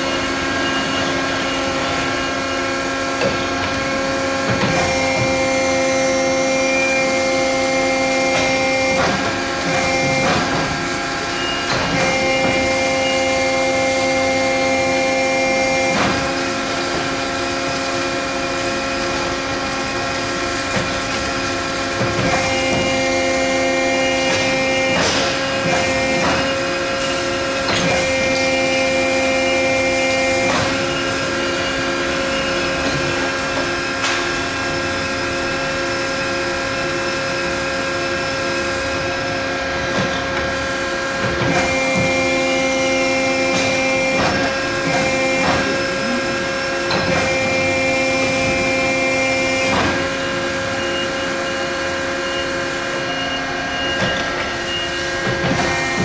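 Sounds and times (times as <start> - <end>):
tube bender motor whine: 0.0 - 56.0.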